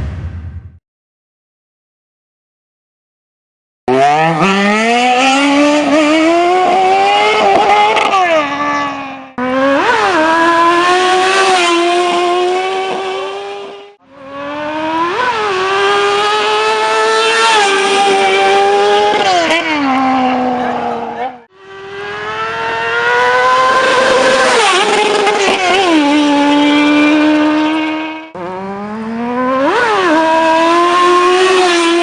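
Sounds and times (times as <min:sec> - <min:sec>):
motorcycle engine revving: 0:03.9 - 0:32.0.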